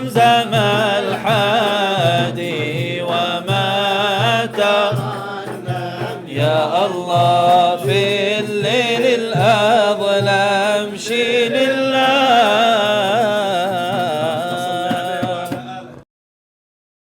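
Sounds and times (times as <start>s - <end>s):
man singing melismatic phrases: 0.0s - 15.9s.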